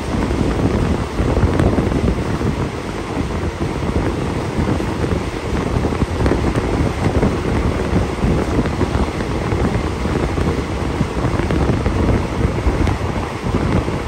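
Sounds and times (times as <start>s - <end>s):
train carriage rumble: 0.0s - 14.0s
wind buffeting microphone: 0.0s - 14.0s.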